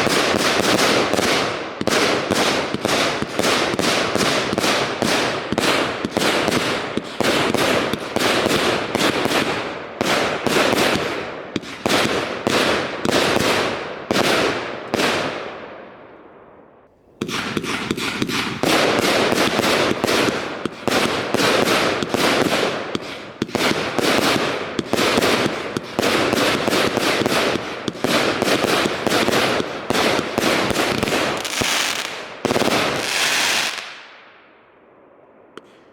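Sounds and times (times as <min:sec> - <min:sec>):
firework shots and bursts: 0:00.0 - 0:15.8, 0:17.2 - 0:34.2.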